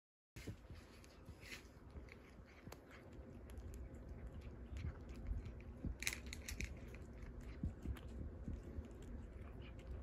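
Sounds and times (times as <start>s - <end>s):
cat crunching dry kibble: 0.6s - 10.0s.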